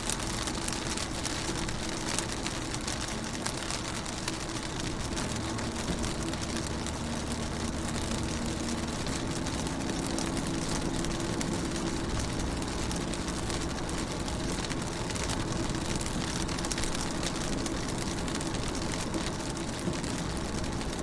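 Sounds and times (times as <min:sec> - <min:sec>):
rain on car windows: 0:00.0 - 0:21.0.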